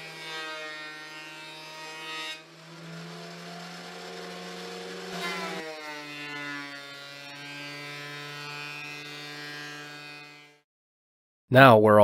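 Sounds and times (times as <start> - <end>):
planer cutting board: 0.0 - 10.6
thickness planer motor whine: 0.0 - 10.6.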